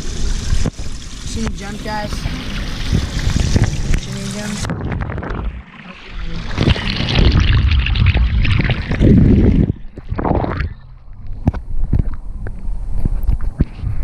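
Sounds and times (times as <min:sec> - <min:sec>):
water pouring and splashing: 0:00.0 - 0:11.3.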